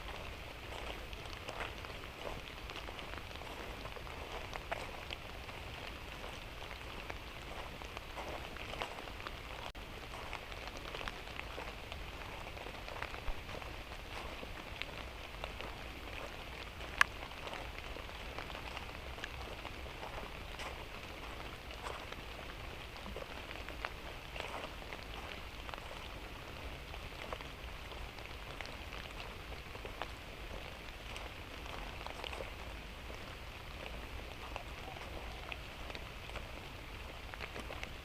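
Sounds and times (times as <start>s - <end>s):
light drizzling rain: 0.0s - 38.0s
raindrops ticking on surfaces: 0.0s - 38.0s.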